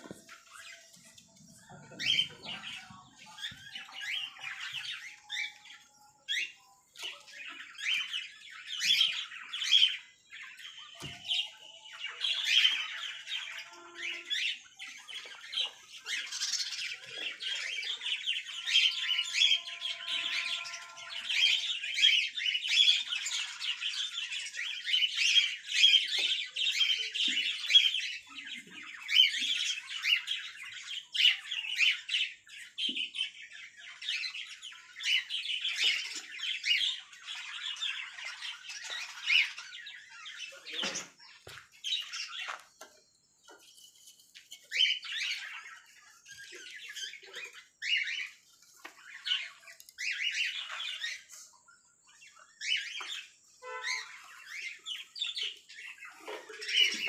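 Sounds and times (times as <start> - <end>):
lovebirds chattering and squawking: 0.0 - 57.0.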